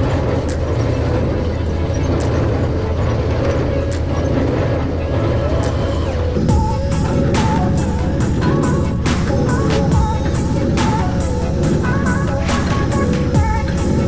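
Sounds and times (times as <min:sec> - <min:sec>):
faint machinery ticking: 0:00.0 - 0:14.0
tractor engine running: 0:00.0 - 0:14.0.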